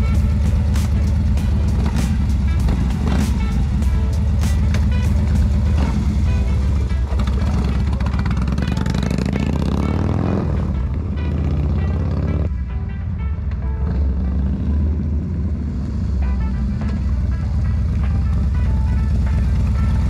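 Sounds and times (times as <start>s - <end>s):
motorcycle engine running: 0.0s - 12.6s, 13.6s - 20.0s
background music with steady beat: 0.0s - 20.0s.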